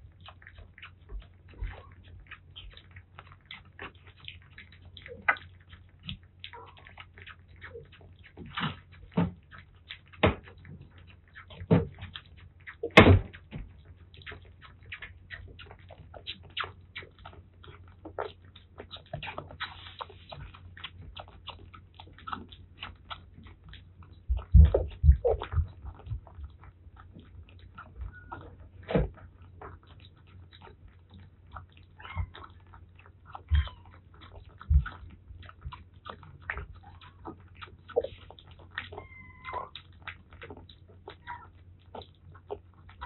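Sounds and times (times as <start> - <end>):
kitten sucking on milk bottle: 0.0 - 43.0
kittens lapping and chewing food: 0.0 - 43.0.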